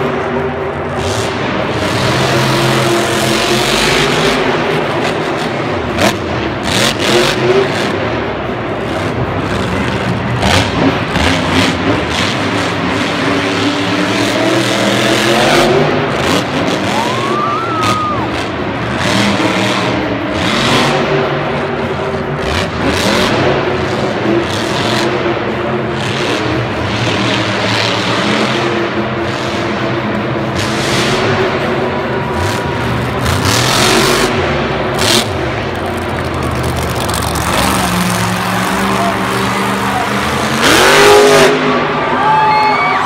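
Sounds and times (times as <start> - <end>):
monster truck engine revving: 0.0 - 43.0.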